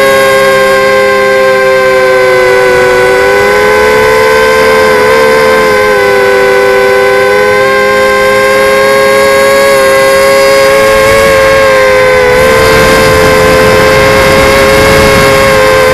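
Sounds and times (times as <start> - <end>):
drone propellers whining: 0.0 - 15.9.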